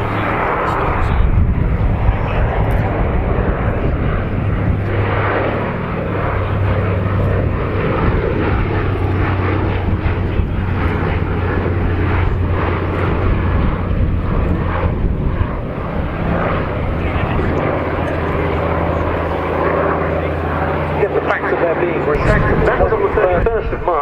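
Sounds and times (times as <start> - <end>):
propeller plane engines droning: 0.0 - 24.0.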